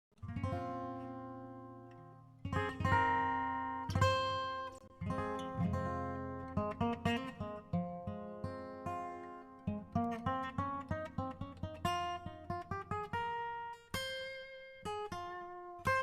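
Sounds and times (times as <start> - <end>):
acoustic guitar playing: 0.2 - 16.0.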